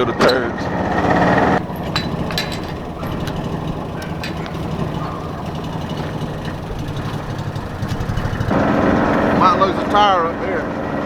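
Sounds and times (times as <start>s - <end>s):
utility vehicle engine running: 0.0s - 11.0s
clicks and rattles: 1.0s - 10.1s.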